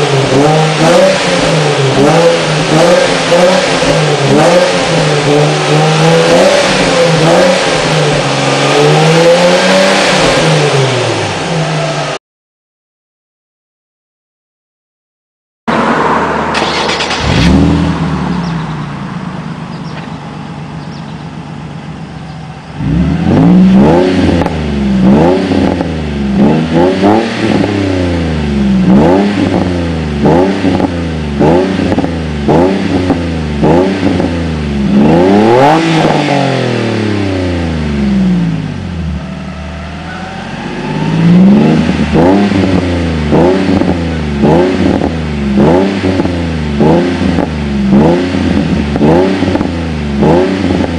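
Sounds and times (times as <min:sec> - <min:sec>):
car engine idling: 0:00.0 - 0:09.5, 0:15.7 - 0:26.8, 0:27.4 - 0:50.9
engine revving: 0:00.0 - 0:12.2, 0:15.7 - 0:20.1, 0:22.7 - 0:50.9.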